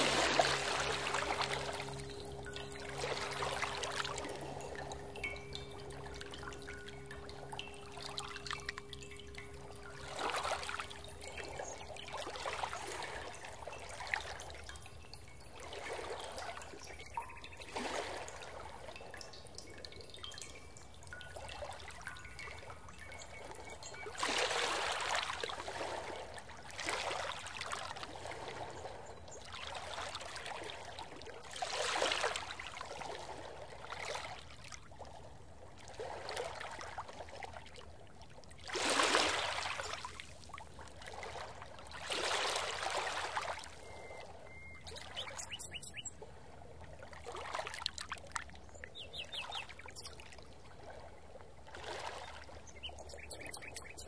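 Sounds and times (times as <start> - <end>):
water trickling and rushing: 0.0 - 54.0.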